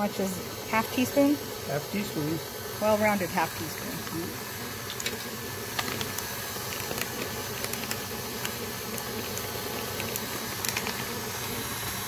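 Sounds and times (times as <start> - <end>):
stand mixer motor running: 0.0 - 12.0.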